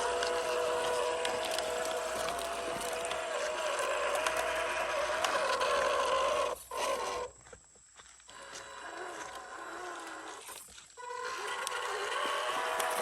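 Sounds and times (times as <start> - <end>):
small electric motor whining: 0.0 - 7.6, 8.2 - 13.0
tyres crunching on ground: 0.0 - 13.0.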